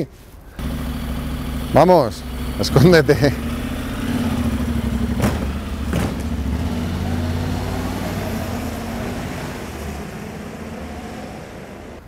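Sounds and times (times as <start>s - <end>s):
motorcycle engine pulling away: 0.6s - 12.0s.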